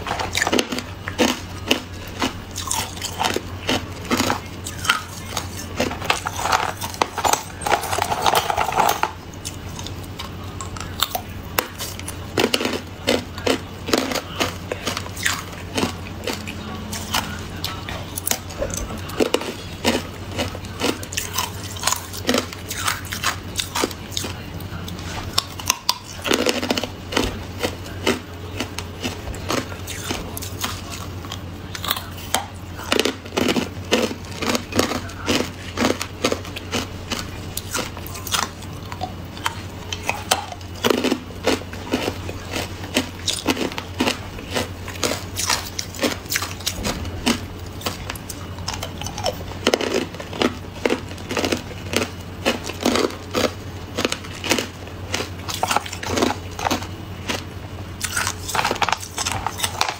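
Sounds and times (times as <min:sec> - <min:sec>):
person crunching ice cubes: 0:00.0 - 0:59.9
steady low hum: 0:00.0 - 0:59.9.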